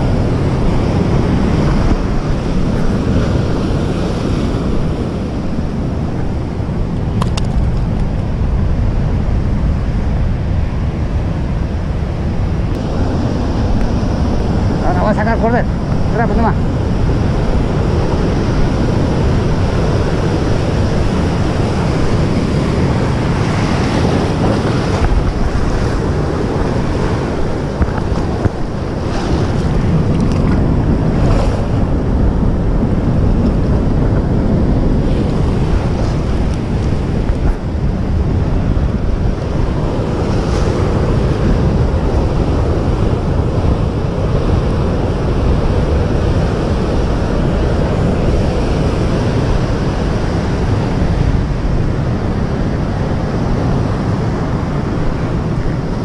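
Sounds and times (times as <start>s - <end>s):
surf breaking over rocks: 0.0s - 56.0s
wind buffeting microphone: 0.0s - 56.0s.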